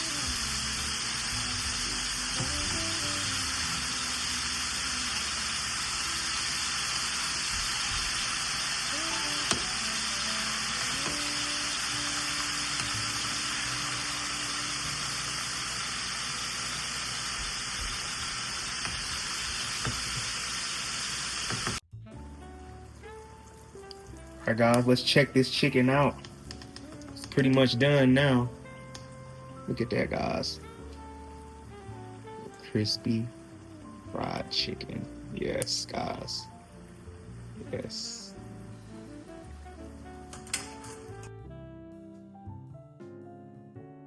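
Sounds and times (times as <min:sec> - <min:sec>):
chicken deep-frying in oil: 0:00.0 - 0:39.3.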